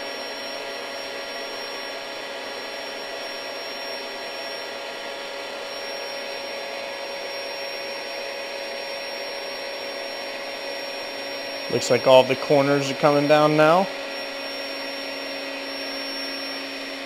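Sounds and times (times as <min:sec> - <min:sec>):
air pump whirring: 0:00.0 - 0:17.0.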